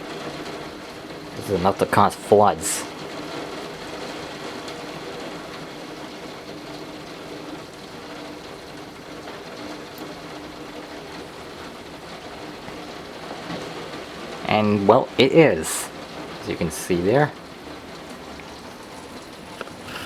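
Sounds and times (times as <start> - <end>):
torrential rain: 0.0 - 20.0
water pouring off gutters: 0.0 - 20.0.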